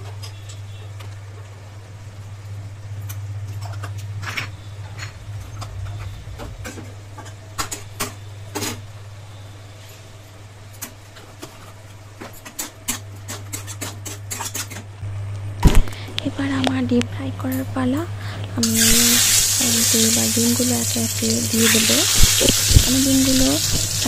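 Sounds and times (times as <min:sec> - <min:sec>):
steady low hum: 0:00.6 - 0:12.2, 0:14.9 - 0:24.0.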